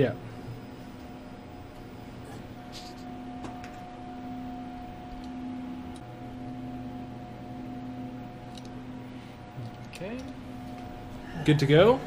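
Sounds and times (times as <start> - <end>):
workshop machine hum: 0.0 - 12.0.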